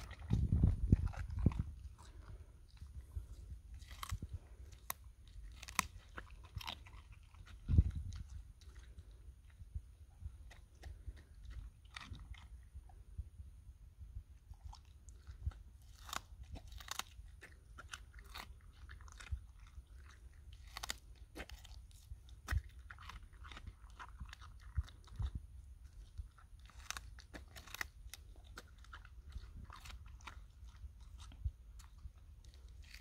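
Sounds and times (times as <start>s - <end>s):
dog crunching watermelon: 0.0s - 13.1s, 14.2s - 33.0s.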